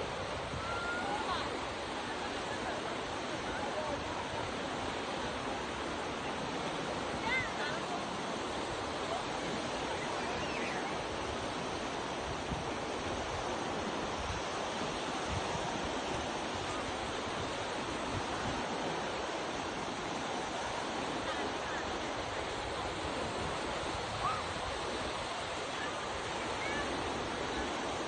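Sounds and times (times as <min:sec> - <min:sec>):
waves washing onto shore: 0:00.0 - 0:28.0.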